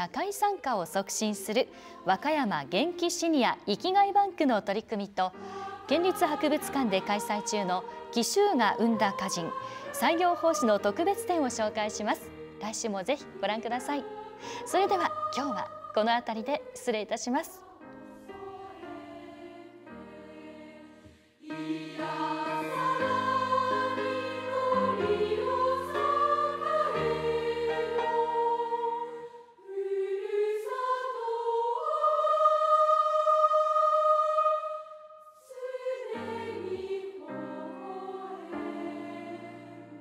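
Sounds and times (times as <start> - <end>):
choir singing sustained chords: 0.0 - 3.9, 5.2 - 40.0.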